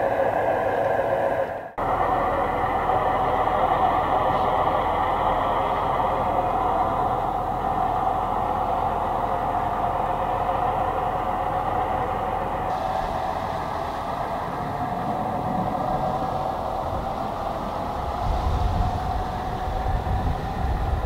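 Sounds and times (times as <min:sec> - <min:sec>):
model locomotive running on track: 0:00.0 - 0:21.0.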